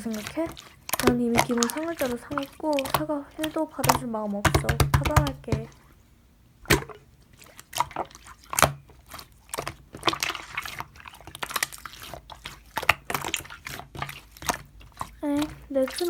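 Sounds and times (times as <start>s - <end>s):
slime squishing wet pops: 0.0s - 6.0s, 6.6s - 16.0s.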